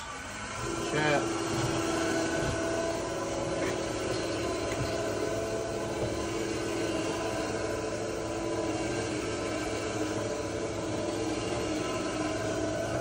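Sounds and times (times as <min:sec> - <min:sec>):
machine hum with held tones: 0:00.0 - 0:13.0.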